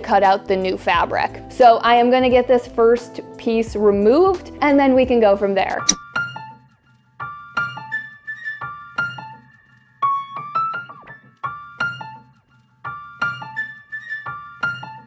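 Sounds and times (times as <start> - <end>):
piano light melody: 0.0 - 15.0.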